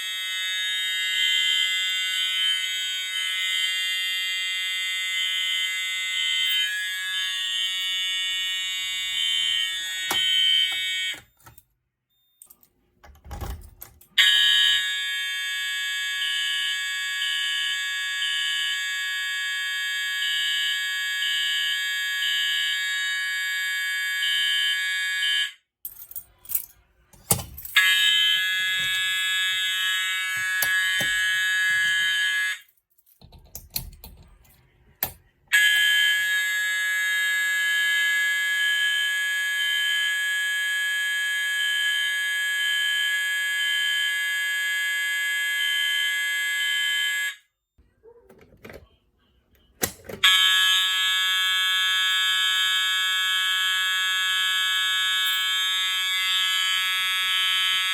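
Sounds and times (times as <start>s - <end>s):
fire alarm horn: 0.0s - 12.6s, 14.1s - 25.7s, 27.7s - 32.8s, 35.0s - 47.6s, 49.6s - 57.9s.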